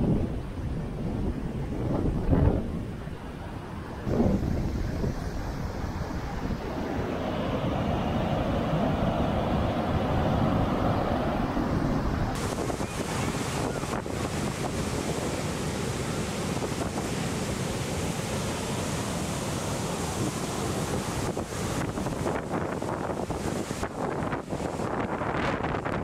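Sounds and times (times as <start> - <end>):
wind buffeting microphone: 0.0 - 26.0
surf breaking on beach: 4.0 - 26.0.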